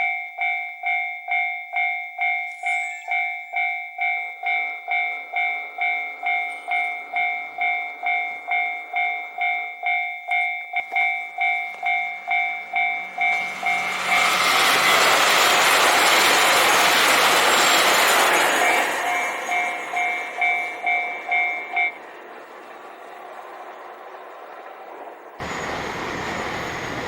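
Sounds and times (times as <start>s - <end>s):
approaching diesel train: 0.0s - 27.0s
level-crossing warning bell: 0.0s - 27.0s.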